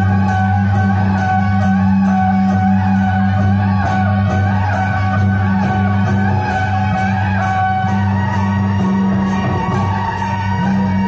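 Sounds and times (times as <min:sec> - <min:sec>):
low held notes: 0:00.0 - 0:11.0.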